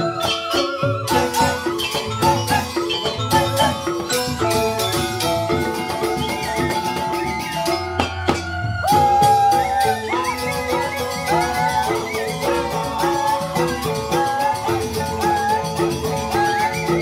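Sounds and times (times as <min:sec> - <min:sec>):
bamboo xylophones playing: 0:00.0 - 0:17.0
hand drums: 0:00.0 - 0:17.0.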